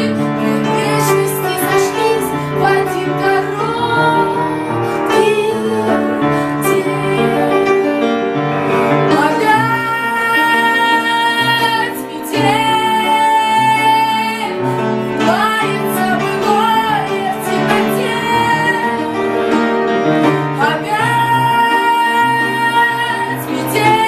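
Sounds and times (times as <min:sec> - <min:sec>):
piano accompaniment: 0:00.0 - 0:24.0
woman singing: 0:00.0 - 0:24.0.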